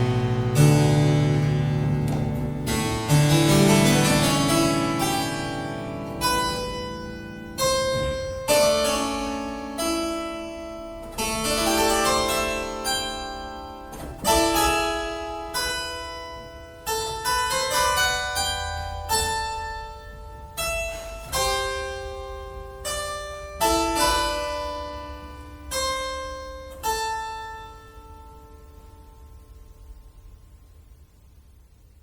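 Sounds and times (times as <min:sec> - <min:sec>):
harpsichord playing slow chords: 0:00.0 - 0:30.9.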